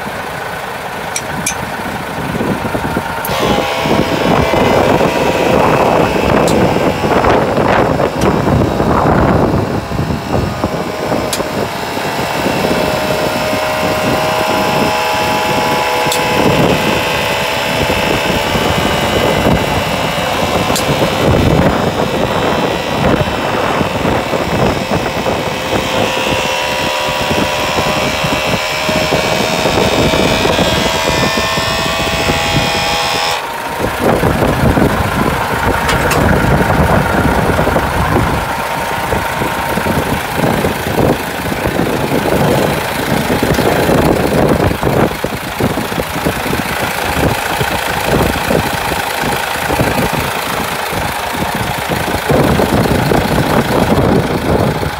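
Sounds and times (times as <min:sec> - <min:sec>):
diesel truck engine idling: 0:00.0 - 0:54.9
steady whine: 0:00.0 - 0:54.9.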